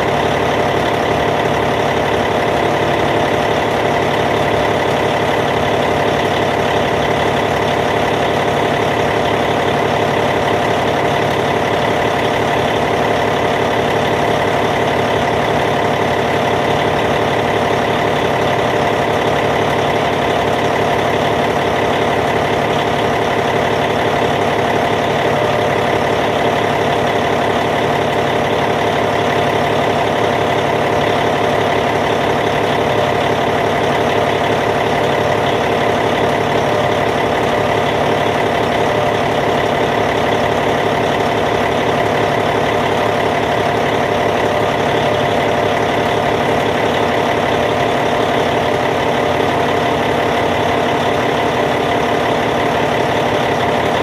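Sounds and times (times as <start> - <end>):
bulldozer diesel engine idling: 0.0 - 54.0.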